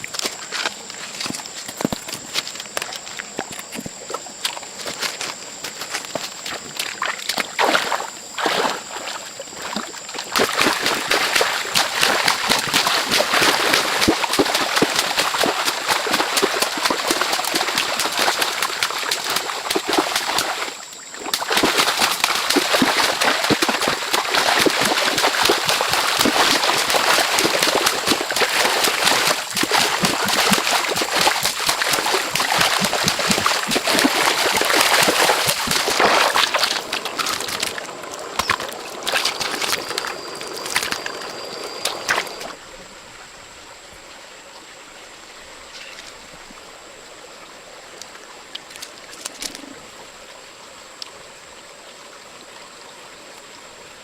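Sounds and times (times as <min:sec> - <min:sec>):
water splashing and sloshing: 0:00.0 - 0:42.6, 0:47.9 - 0:49.8.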